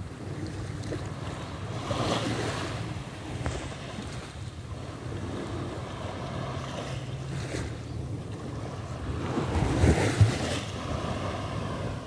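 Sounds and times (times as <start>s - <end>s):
small waves washing on shore: 0.0s - 12.0s
wind noise on microphone: 0.0s - 12.0s.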